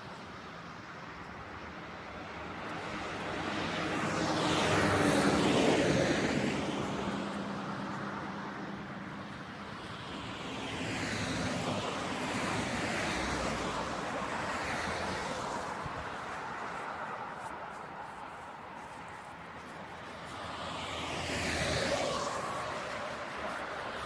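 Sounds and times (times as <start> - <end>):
vehicles passing by: 2.0 - 24.0.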